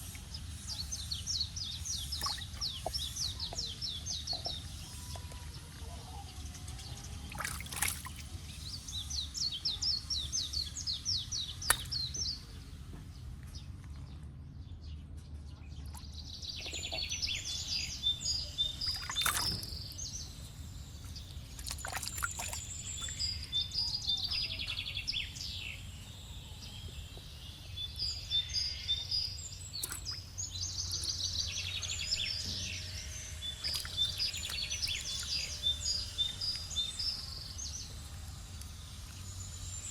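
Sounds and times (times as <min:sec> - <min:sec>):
birds chirping and trilling: 0:00.0 - 0:14.2, 0:15.6 - 0:39.9.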